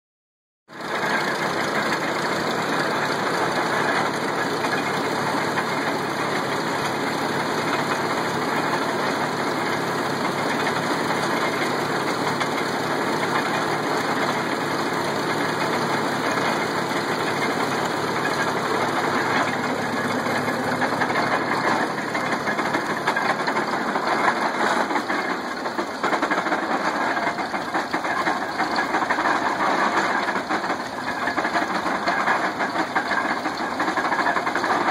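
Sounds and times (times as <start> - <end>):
tractor engine running: 0.7 - 34.9.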